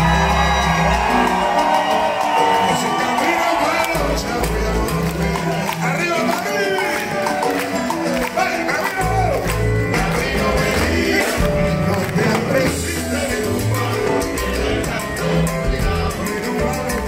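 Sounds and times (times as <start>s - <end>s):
live salsa band: 0.0s - 17.0s.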